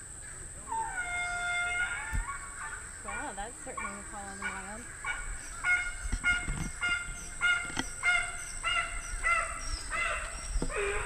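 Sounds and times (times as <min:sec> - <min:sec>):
donkey braying: 0:00.7 - 0:11.0.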